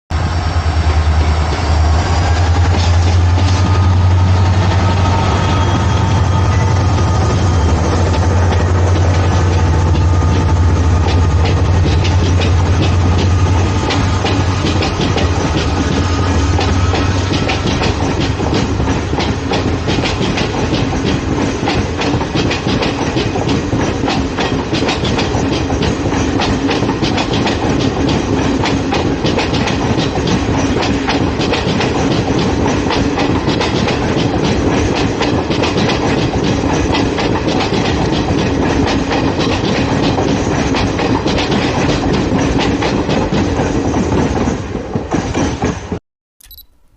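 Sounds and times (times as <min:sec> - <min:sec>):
train rumble: 0:00.1 - 0:46.6
train wheels clacking on rails: 0:00.2 - 0:46.0.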